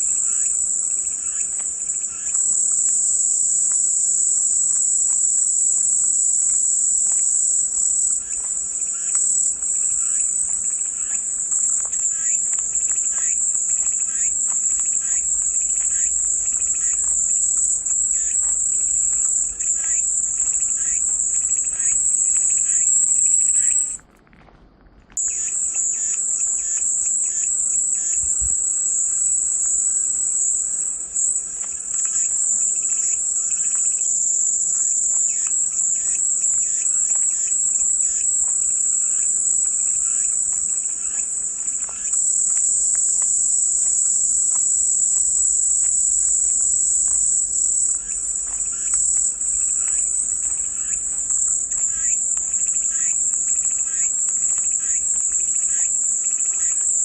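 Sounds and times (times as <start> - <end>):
cicadas buzzing: 0.0 - 24.0, 25.2 - 57.0.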